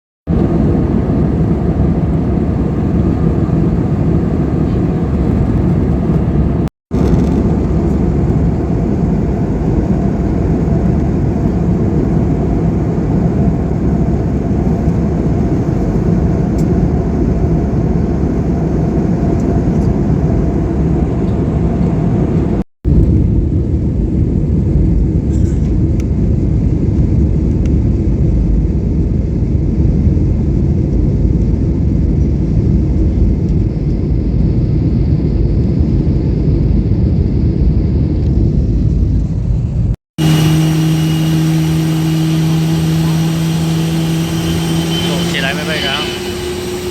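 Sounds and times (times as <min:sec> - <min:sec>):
plane engine rumble in cabin: 0:00.3 - 0:46.9.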